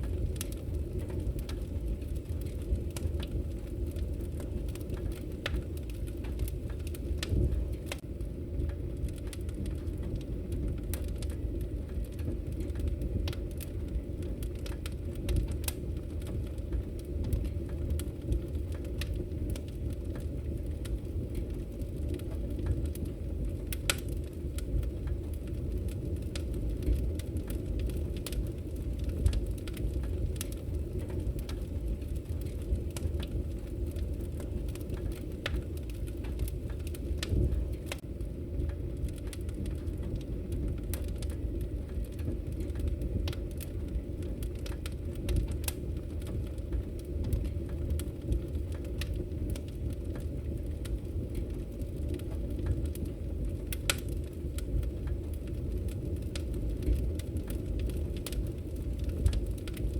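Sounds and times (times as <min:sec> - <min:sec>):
low rumble of fire: 0:00.0 - 0:59.9
wood fire crackling: 0:00.0 - 0:59.9.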